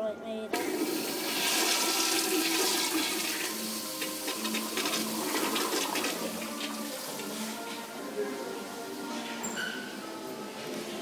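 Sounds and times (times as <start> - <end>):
toilet flushing: 0.5 - 11.0.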